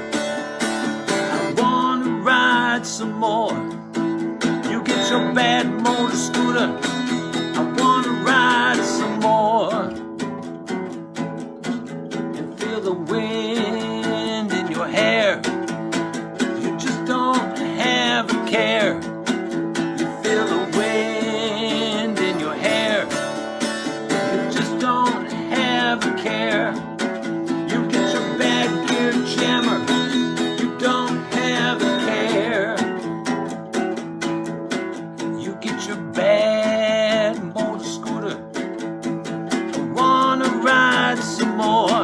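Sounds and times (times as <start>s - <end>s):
acoustic guitar strumming: 0.0s - 42.0s
guitar melody bending in pitch: 0.0s - 42.0s.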